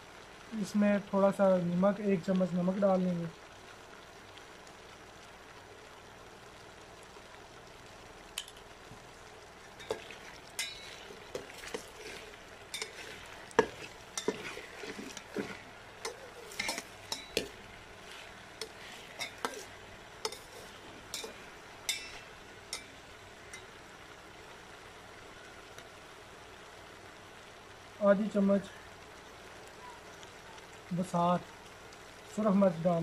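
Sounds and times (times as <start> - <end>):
potatoes sizzling in oil: 0.0 - 33.0.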